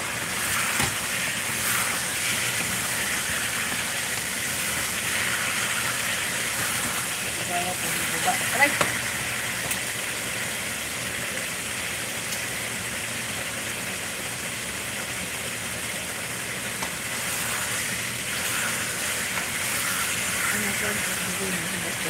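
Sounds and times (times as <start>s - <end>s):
chicken sizzling in a wok: 0.0s - 22.0s.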